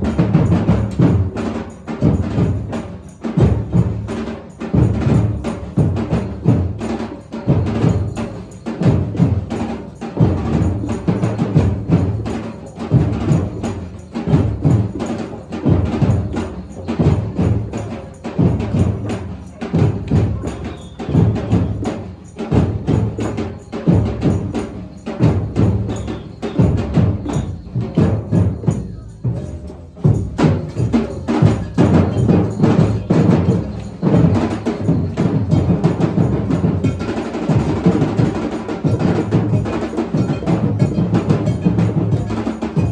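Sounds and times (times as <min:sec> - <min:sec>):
drums playing a steady beat: 0:00.0 - 0:42.9.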